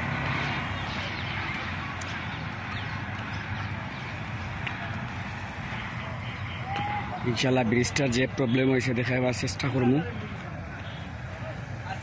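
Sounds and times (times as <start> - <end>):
low rumble of stopped traffic: 0.0 - 12.0.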